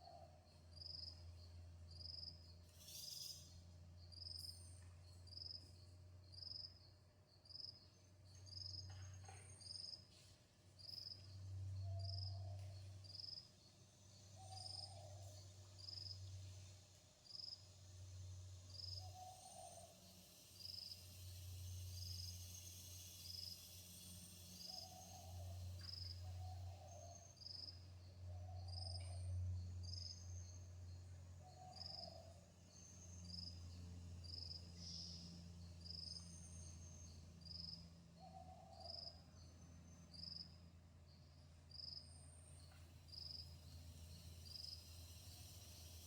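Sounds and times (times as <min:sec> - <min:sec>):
insects chirping: 0:00.5 - 0:10.0, 0:10.8 - 0:46.0.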